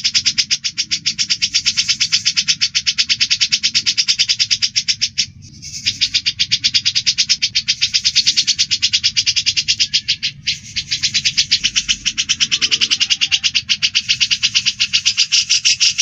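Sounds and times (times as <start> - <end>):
birds chattering chirps: 0.0 - 16.0.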